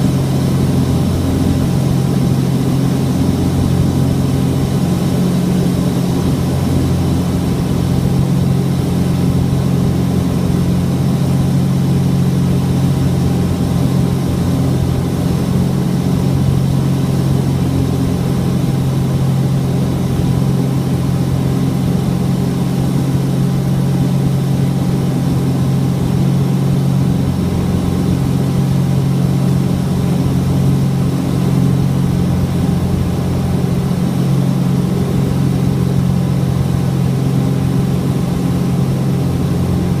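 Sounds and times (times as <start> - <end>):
aircraft piston engines droning: 0.0 - 40.0.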